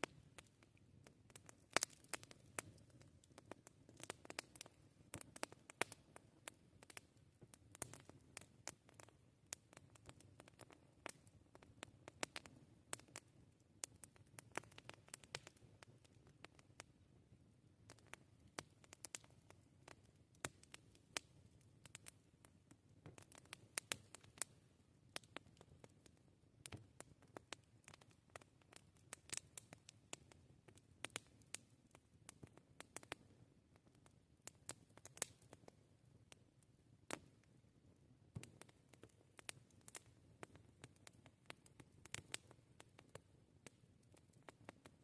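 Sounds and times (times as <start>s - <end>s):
campfire crackling: 0.0s - 36.4s, 37.0s - 45.0s.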